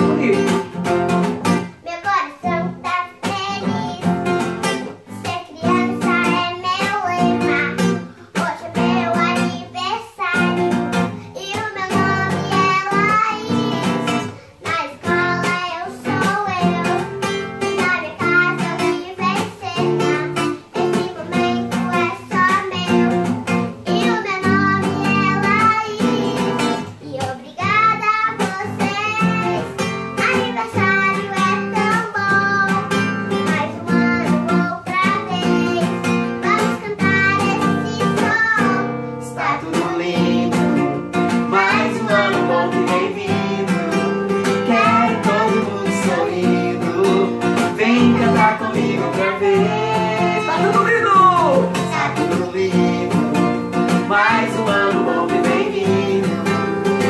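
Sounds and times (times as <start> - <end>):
girl singing: 0.0 - 57.0
strummed acoustic guitar: 0.0 - 57.0.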